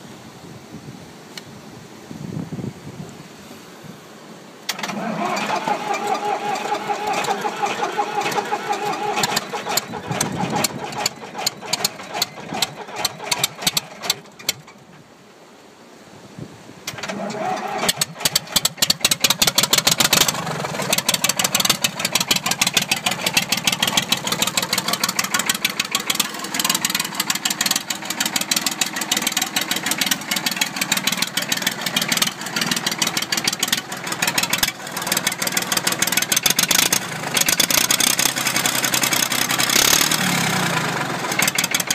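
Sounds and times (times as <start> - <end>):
tractor engine starting and running: 4.6 - 15.1, 16.8 - 41.9.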